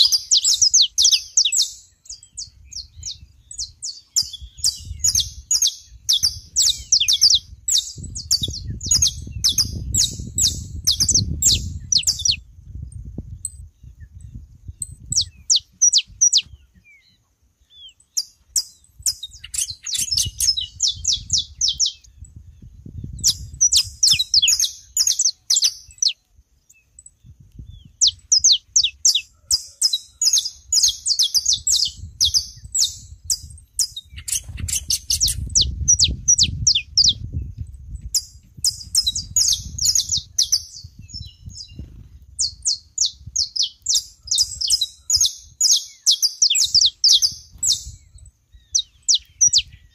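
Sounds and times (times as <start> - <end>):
finches singing: 0.0 - 49.9.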